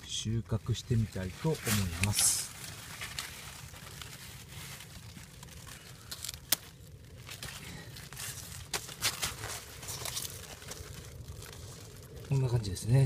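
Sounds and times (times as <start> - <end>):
leaves and plastic film rustling: 0.0 - 13.0.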